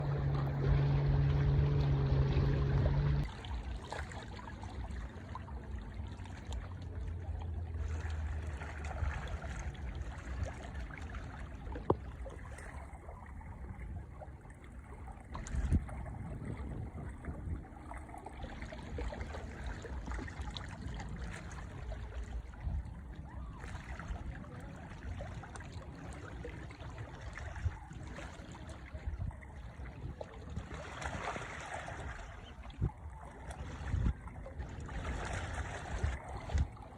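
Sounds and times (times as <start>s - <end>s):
lake water lapping at shore: 0.0s - 36.9s
small splashes: 0.0s - 36.9s.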